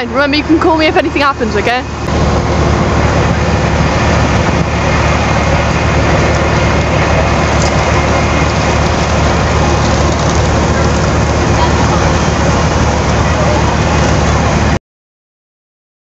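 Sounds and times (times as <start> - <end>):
diesel train engine rumble: 0.0 - 14.8
constant hiss: 0.1 - 14.8.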